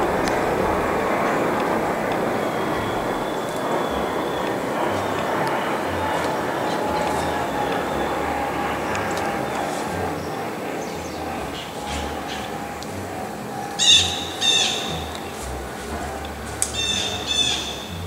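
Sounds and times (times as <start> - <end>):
bird calling loudly: 0.0 - 18.0.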